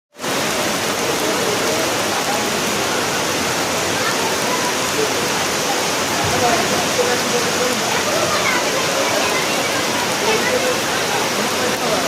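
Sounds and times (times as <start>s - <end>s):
heavy rain falling: 0.1s - 12.0s
faint voices: 0.2s - 12.0s.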